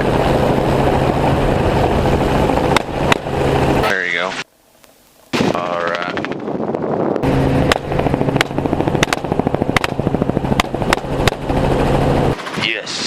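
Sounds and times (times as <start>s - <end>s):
helicopter rotor and engine: 0.0s - 4.5s, 5.3s - 13.0s.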